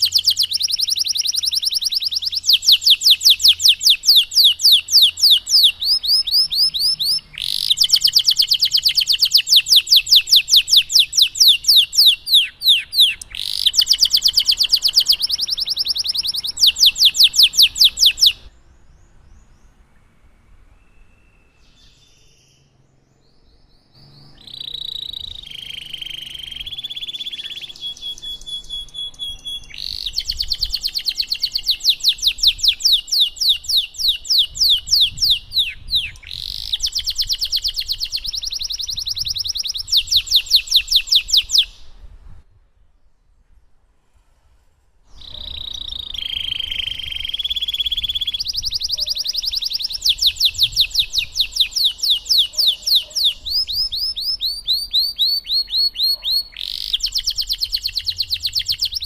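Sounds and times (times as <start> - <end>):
canary singing fast trills: 0.0 - 20.1, 23.6 - 42.2, 45.1 - 59.0.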